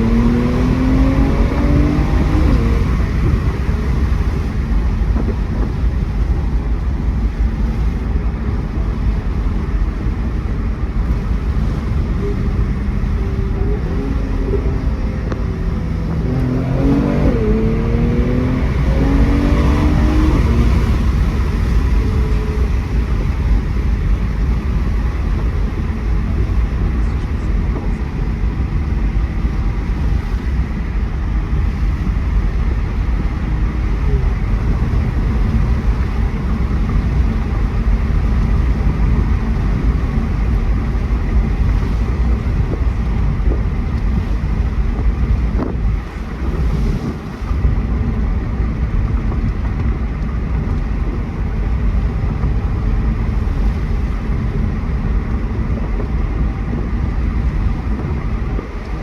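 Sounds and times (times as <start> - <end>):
car engine running: 0.0 - 59.0
road noise: 0.0 - 59.0.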